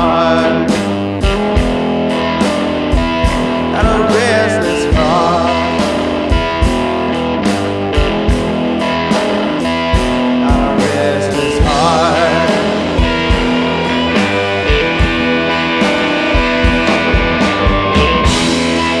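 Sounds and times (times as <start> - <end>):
bent guitar notes: 0.0 - 19.0
rock blues music with electric guitar: 0.0 - 19.0
steady drum beat: 0.0 - 19.0.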